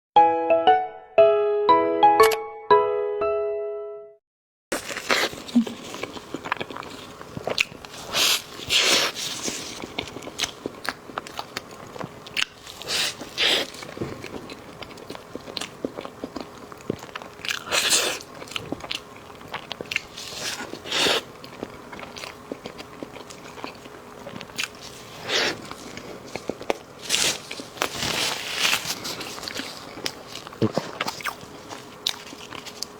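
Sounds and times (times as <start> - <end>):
crunchy bites: 4.7 - 32.9
chewing with wet mouth clicks: 5.0 - 32.9.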